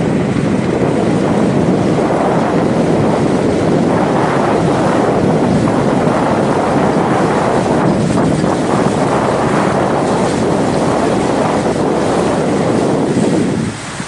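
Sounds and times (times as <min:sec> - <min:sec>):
water churning along boat hull: 0:00.0 - 0:14.0
wind on microphone: 0:00.0 - 0:14.0.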